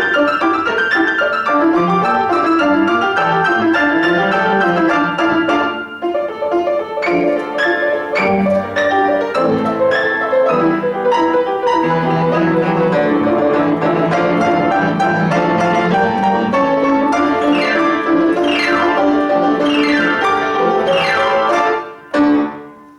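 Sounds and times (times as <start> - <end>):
classical piano piece: 0.0 - 22.9.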